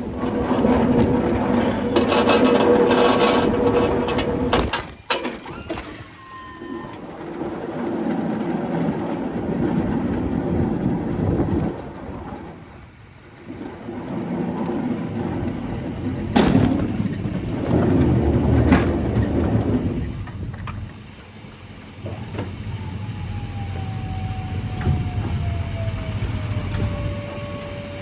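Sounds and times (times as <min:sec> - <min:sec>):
pallet jack rumbling: 0:00.0 - 0:28.0.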